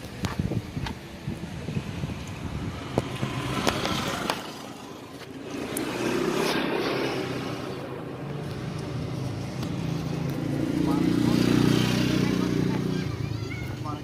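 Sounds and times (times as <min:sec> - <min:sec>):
vehicle engine running: 0:01.2 - 0:14.0.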